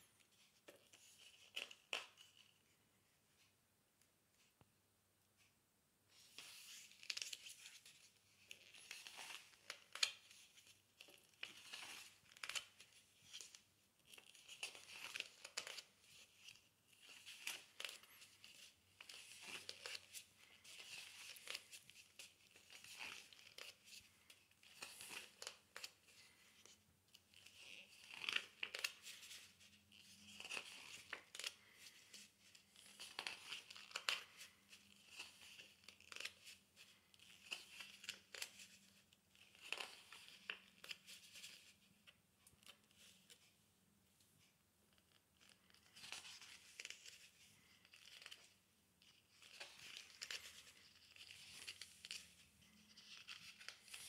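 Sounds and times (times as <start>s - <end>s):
book pages rustling: 0.0s - 2.8s, 6.1s - 43.6s, 44.3s - 54.0s.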